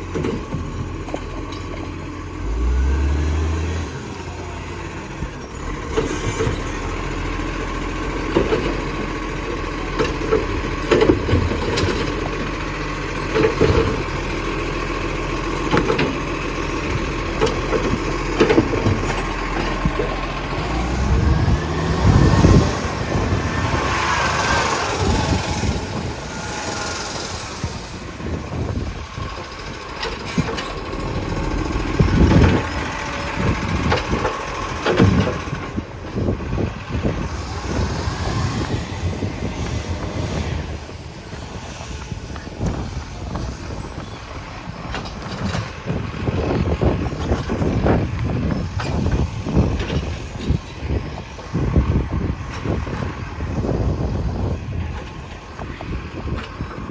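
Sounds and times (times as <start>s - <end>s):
knocks and clunks: 0.0s - 2.1s, 8.1s - 14.7s, 15.4s - 53.2s
garbage truck running: 0.0s - 56.9s.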